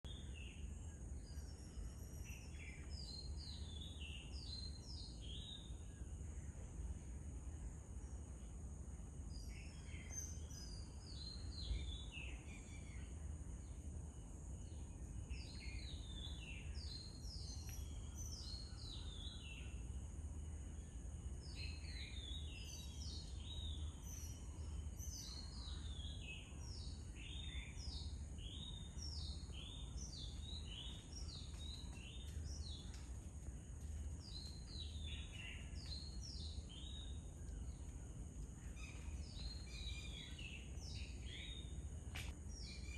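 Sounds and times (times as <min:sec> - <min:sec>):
birds chirping: 0:00.0 - 0:42.9
steady high hiss: 0:00.1 - 0:42.9.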